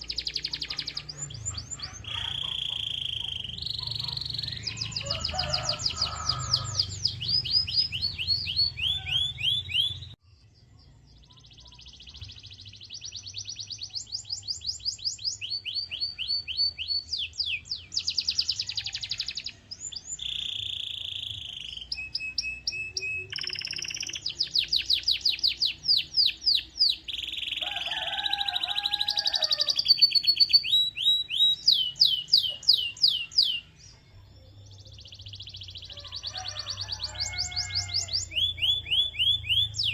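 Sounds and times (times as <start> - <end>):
canary singing: 0.0 - 10.2, 11.1 - 39.9.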